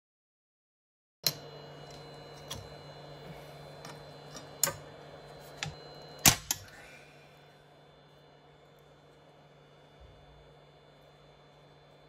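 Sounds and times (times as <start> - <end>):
printer humming: 1.3 - 12.0.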